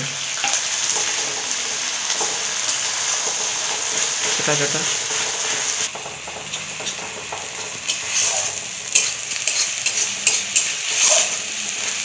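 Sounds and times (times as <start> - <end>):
onions sizzling in hot oil: 0.0 - 12.0
metal spatula scraping pan: 0.4 - 12.0.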